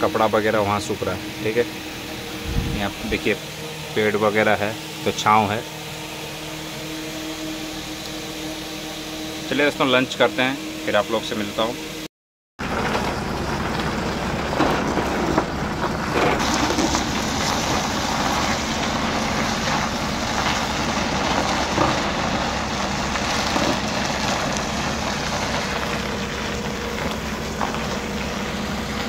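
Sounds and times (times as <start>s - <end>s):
vehicle rumble and hiss: 0.0s - 11.8s, 12.6s - 29.0s.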